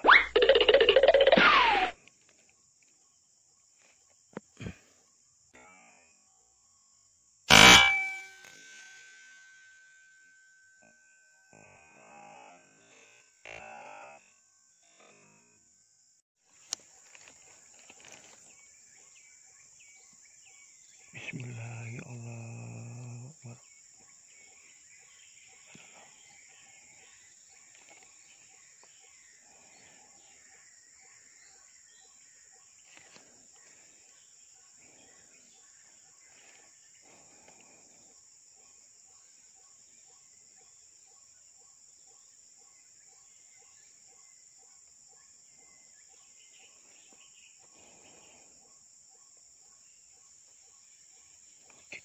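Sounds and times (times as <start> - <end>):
faint high-pitched insect drone: 0.0 - 52.0.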